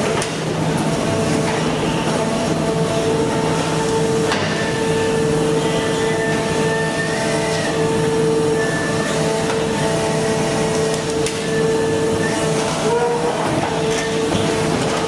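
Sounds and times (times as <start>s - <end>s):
hydraulic machine whine: 0.0s - 15.0s.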